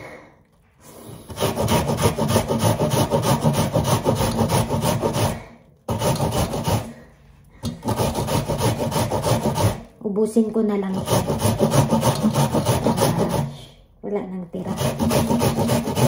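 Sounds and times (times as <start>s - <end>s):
onion rasping on grater: 1.0s - 9.9s, 10.8s - 13.6s, 14.6s - 16.0s.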